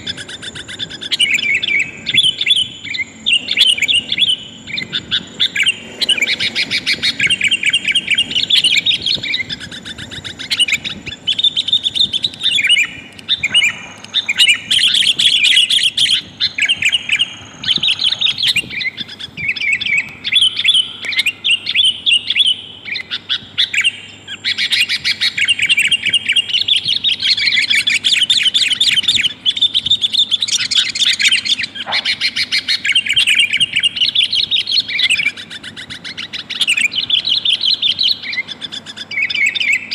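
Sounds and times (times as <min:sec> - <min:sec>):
bird chattering call: 0:00.0 - 0:39.9.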